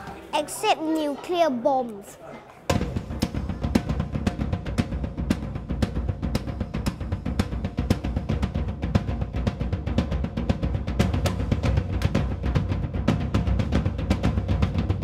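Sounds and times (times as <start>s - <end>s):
music with drum-kit beat: 2.7s - 15.0s.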